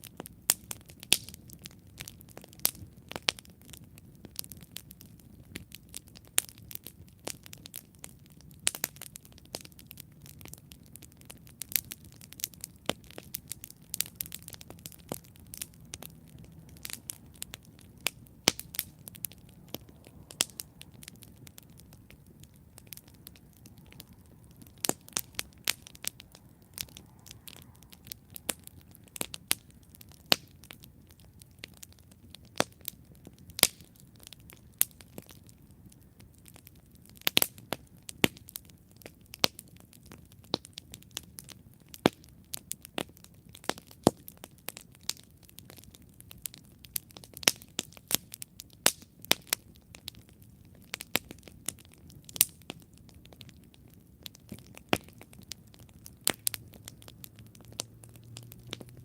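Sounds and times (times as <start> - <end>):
campfire popping and crackling: 0.0 - 59.0
low rumble of flame: 0.0 - 59.0.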